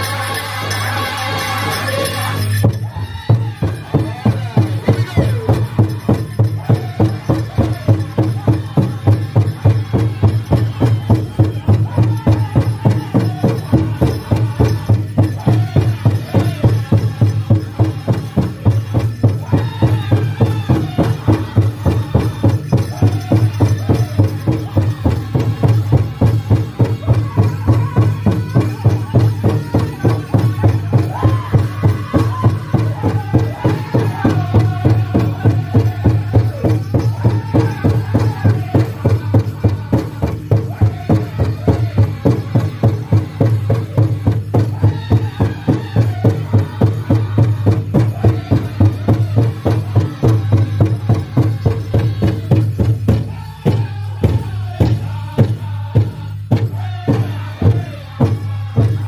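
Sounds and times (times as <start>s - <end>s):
large drum fast beat: 0.0s - 59.0s
voices singing together: 0.0s - 59.0s.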